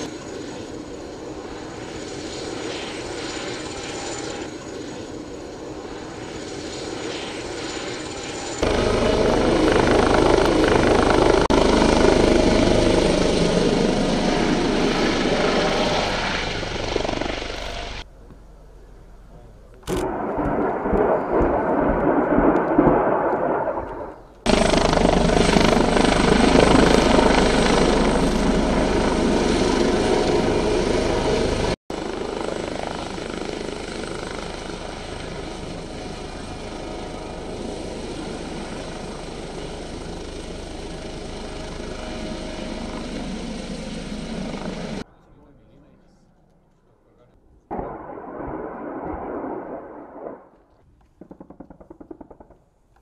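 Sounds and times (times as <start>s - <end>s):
helicopter rotor and engines: 0.0s - 47.4s.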